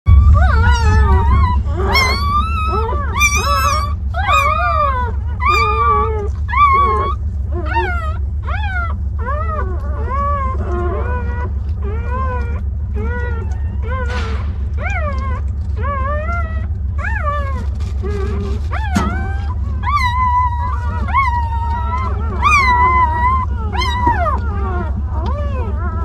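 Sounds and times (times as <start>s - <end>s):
newborn puppies whining: 0.1s - 26.0s
steady low hum: 0.1s - 26.0s.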